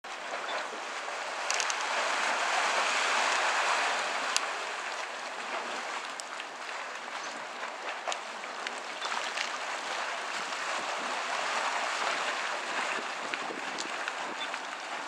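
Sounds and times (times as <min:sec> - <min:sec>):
hot spring water sloshing: 0:00.0 - 0:15.0.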